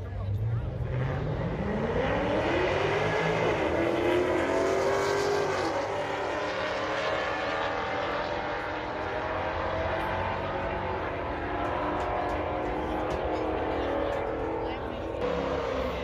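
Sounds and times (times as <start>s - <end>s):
drag racing car engine accelerating: 0.0s - 16.0s.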